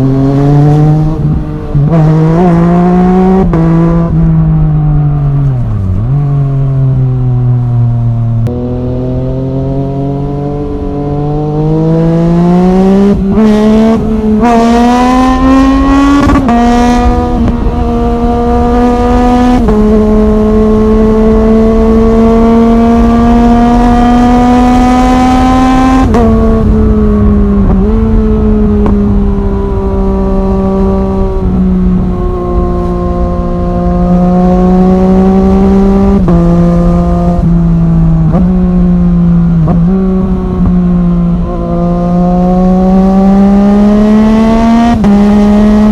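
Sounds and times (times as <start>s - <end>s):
motorcycle engine accelerating: 0.0s - 45.9s
wind rumble: 0.0s - 45.9s.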